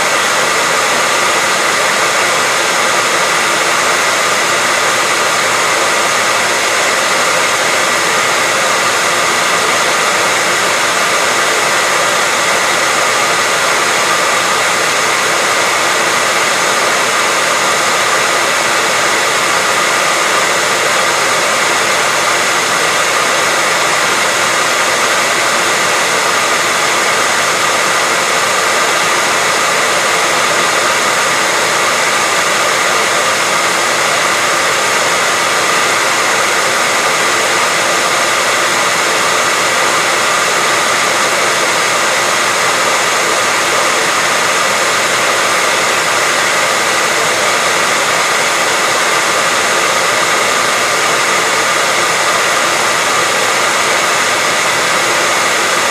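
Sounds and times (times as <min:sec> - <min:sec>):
hair dryer blowing: 0:00.0 - 0:55.9.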